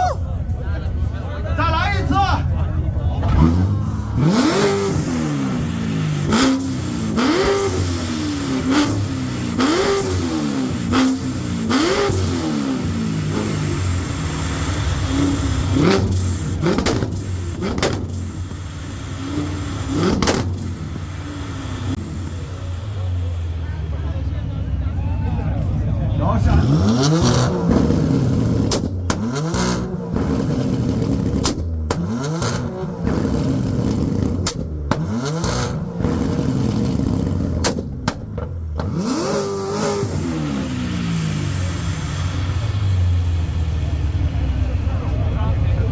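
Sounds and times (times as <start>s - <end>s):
exhaust cracks: 0.0s - 45.9s
sports car engine revving: 0.2s - 45.9s.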